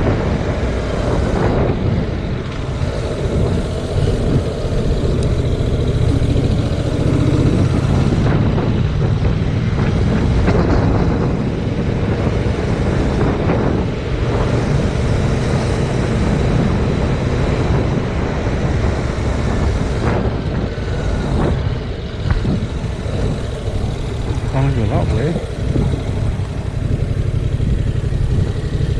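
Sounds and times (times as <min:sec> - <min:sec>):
motorcycle engine running: 0:00.0 - 0:28.9
wind buffeting microphone: 0:00.0 - 0:28.9.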